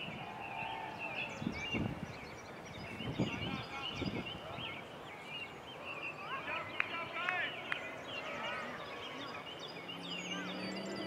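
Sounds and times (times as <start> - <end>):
birds chirping: 0.0 - 11.0
faint voices: 0.0 - 11.0.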